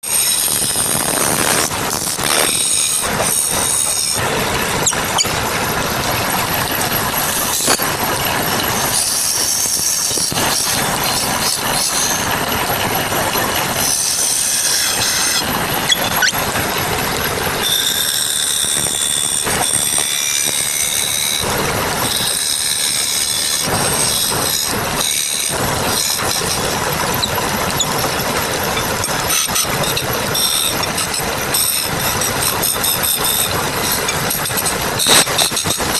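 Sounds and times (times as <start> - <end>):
high-pitched tool squeal: 0.0 - 35.9
wood lathe tool scraping wood: 0.0 - 35.9.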